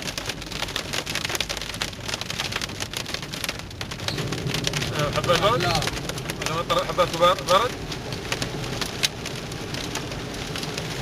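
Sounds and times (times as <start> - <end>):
hailstones striking hard surfaces: 0.0 - 11.0
heavy rain: 0.0 - 11.0.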